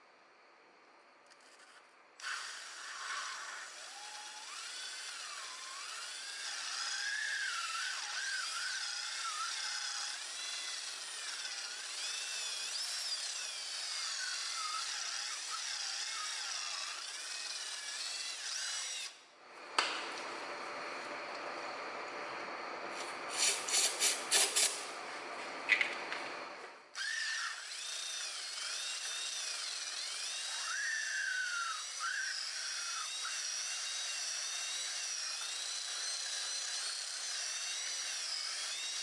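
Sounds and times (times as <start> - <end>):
handheld power tool grinding: 1.4 - 39.0.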